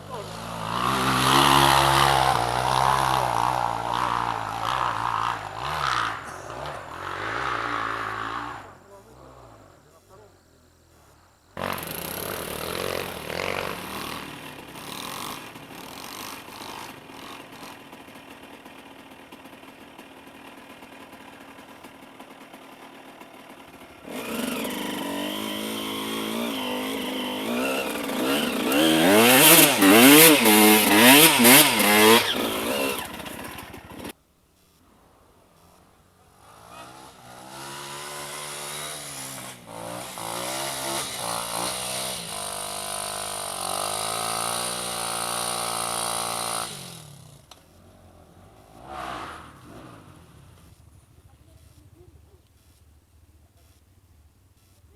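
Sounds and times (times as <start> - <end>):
motorcycle engine revving: 0.0 - 10.2, 11.6 - 34.2, 35.4 - 53.8.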